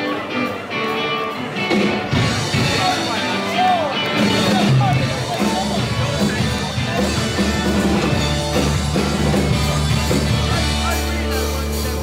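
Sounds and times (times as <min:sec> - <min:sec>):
guitar: 0:00.0 - 0:12.0
rock band playing: 0:00.0 - 0:12.0
steady bass line: 0:01.8 - 0:12.0.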